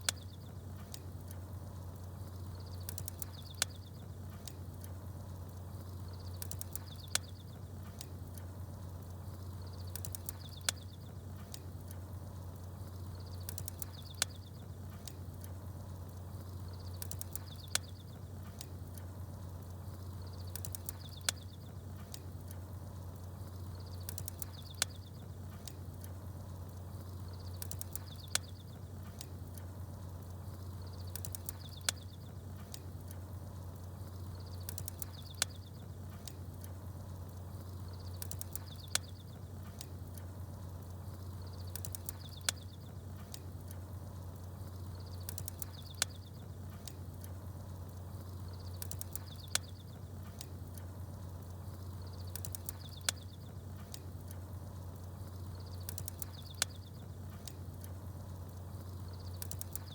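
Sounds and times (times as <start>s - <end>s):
campfire popping: 0.0s - 59.9s
small birds chirping: 0.0s - 59.9s.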